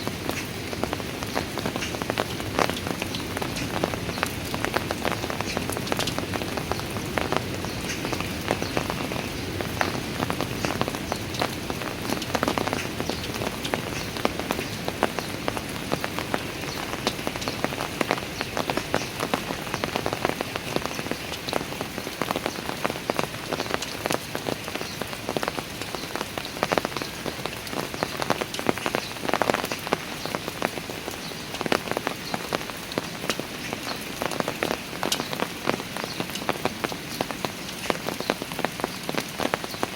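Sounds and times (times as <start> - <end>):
rain on hard ground: 0.0 - 39.9.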